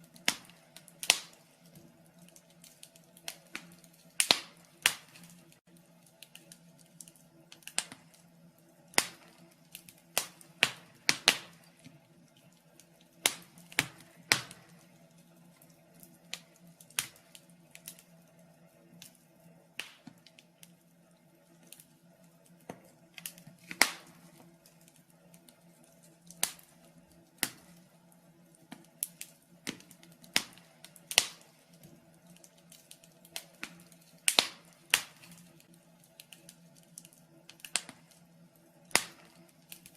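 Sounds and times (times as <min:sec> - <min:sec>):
low steady hum: 0:00.0 - 0:39.9
wood fire crackling: 0:00.0 - 0:39.9.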